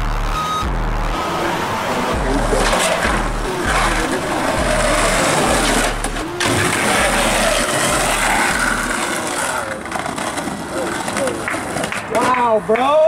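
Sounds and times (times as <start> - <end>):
skateboard wheels rolling on asphalt: 1.2 - 13.0.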